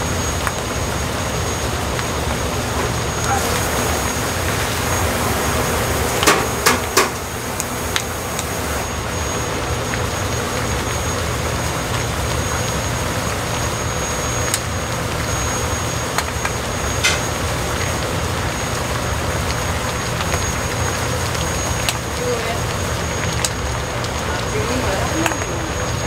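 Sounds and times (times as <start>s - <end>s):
broth boiling in pots: 0.0s - 26.0s
gas burners rumbling: 0.0s - 26.0s.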